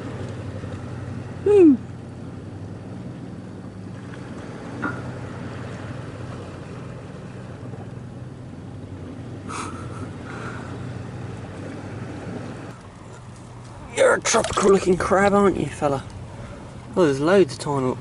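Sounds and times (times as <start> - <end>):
sea on rocky shore: 0.0 - 18.0
wind: 0.0 - 18.0.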